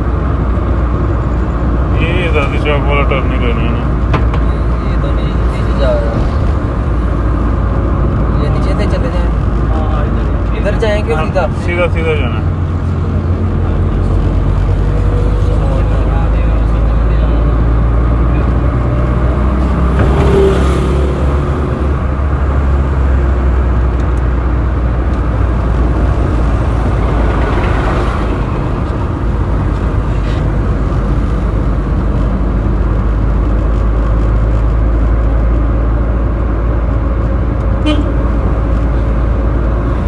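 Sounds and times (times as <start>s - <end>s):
road traffic rumble: 0.0s - 40.0s
vehicles passing: 0.0s - 40.0s.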